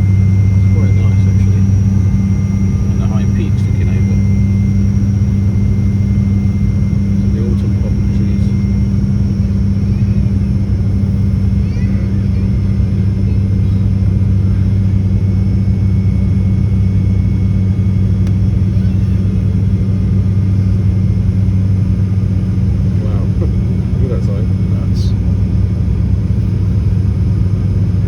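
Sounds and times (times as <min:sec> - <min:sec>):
turboprop engines in cabin: 0:00.0 - 0:28.0.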